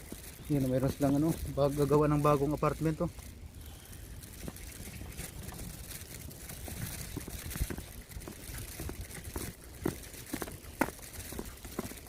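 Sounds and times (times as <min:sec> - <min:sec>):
light ticks and crunches: 0:00.0 - 0:12.0.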